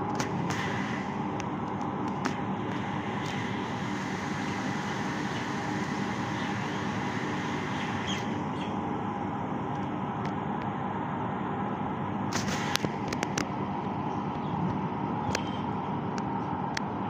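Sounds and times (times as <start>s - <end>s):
low street hum: 0.0s - 17.0s.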